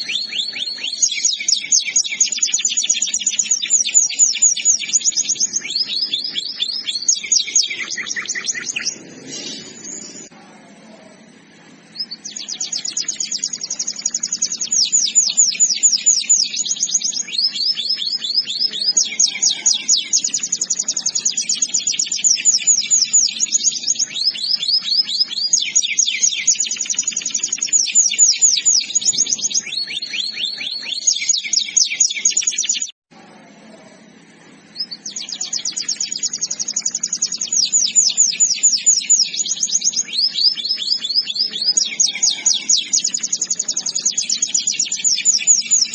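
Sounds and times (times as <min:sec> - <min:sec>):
canary singing trills: 0:00.0 - 0:33.0, 0:34.0 - 0:45.9.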